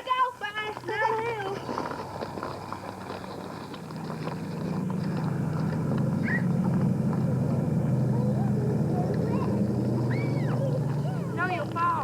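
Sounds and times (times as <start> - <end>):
vehicle engine humming: 0.2 - 12.0.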